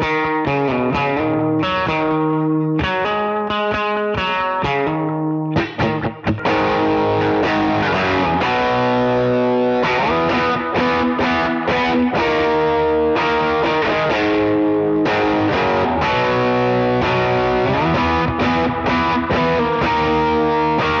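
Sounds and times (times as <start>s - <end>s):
distorted electric guitar: 0.0s - 21.0s.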